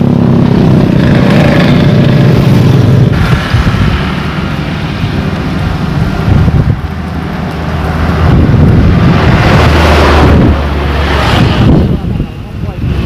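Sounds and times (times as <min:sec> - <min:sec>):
road traffic passing: 0:00.0 - 0:13.0
wind buffeting microphone: 0:00.0 - 0:13.0.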